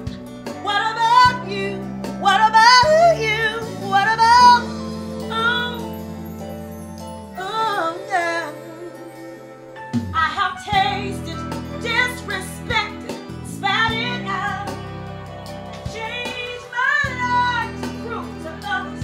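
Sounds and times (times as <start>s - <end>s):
woman singing: 0.0s - 6.5s, 7.2s - 15.1s, 15.7s - 19.0s
sustained bass notes: 0.0s - 8.1s, 10.8s - 19.0s.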